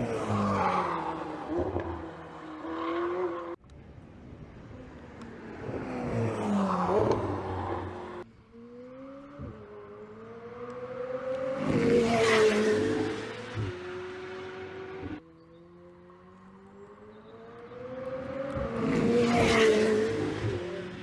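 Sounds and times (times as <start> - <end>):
car engine at speed: 0.0 - 21.0.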